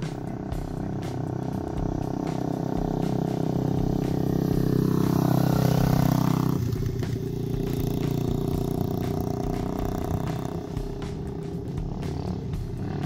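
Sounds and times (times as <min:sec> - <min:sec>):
small motorbike engines running: 0:00.0 - 0:13.0.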